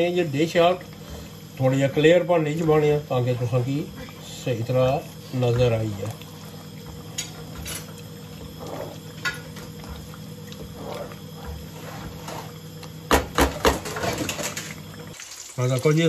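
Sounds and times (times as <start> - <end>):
steady low hum: 0.0 - 15.2
oil bubbling gently: 0.0 - 16.0.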